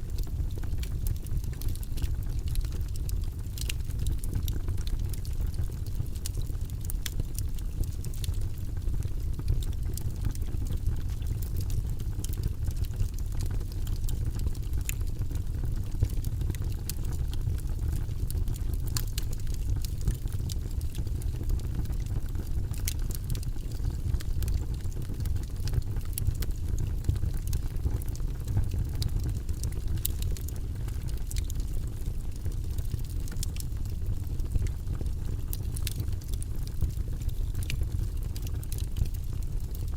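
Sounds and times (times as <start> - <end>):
logs burning in a fireplace: 0.0 - 39.9.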